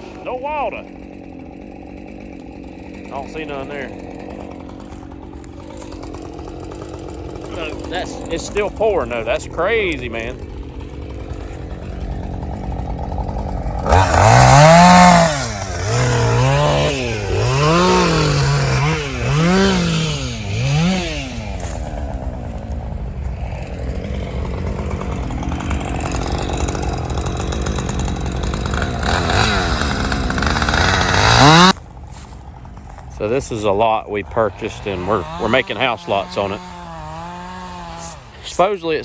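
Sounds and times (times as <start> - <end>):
chainsaw engine revving: 0.0 - 39.0.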